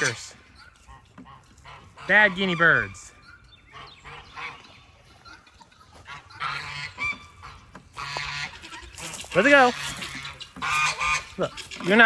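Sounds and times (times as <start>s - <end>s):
guinea fowl rasping calls: 0.0s - 12.0s.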